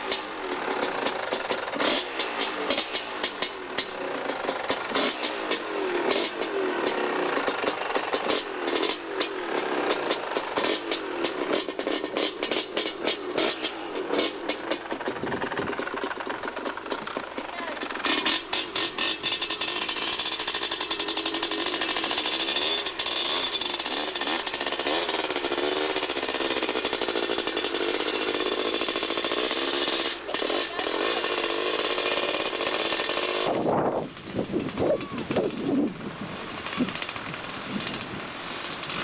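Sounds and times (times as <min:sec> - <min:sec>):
small engine running hard: 0:00.0 - 0:39.0.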